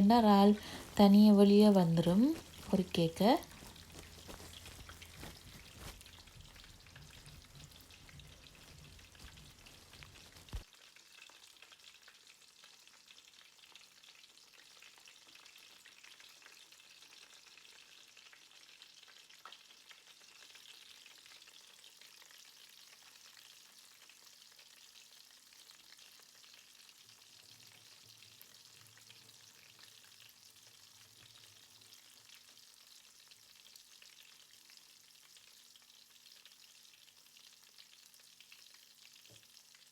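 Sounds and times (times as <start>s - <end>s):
deep-frying sizzle in oil: 0.0s - 39.9s.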